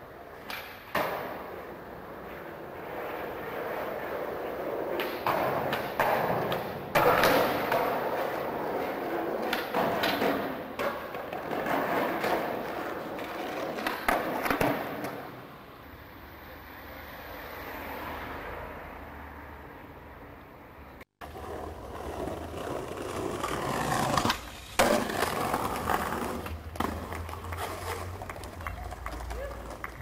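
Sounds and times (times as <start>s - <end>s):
skateboard clacking: 0.0s - 15.5s, 21.2s - 30.0s
skateboard wheels rolling on pavement: 0.0s - 30.0s.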